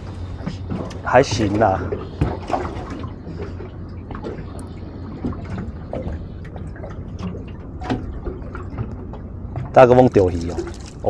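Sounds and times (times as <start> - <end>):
steady low hum: 0.0 - 11.0
water sloshing and dripping: 0.0 - 11.0.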